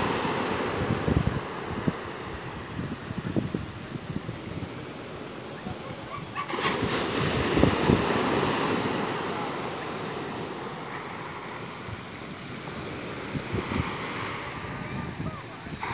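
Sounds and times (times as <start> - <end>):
sea waves breaking on shore: 0.0 - 15.9
wind buffeting microphone: 0.0 - 15.9.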